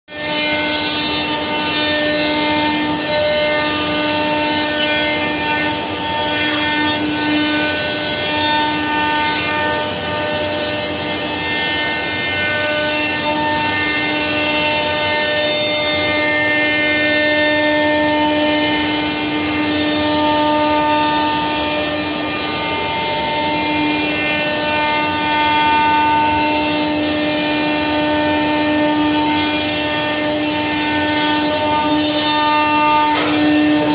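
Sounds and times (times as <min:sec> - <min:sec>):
router spindle whine: 0:05.1 - 0:33.9.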